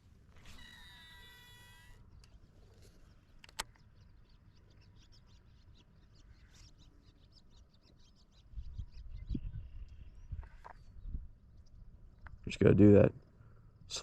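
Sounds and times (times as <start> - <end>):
faint bird chirps: 0.4 - 13.9.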